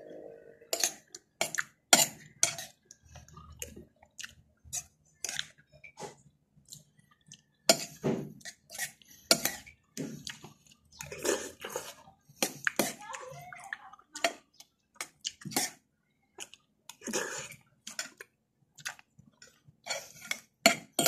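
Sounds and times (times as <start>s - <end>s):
chewing: 0.7s - 21.0s.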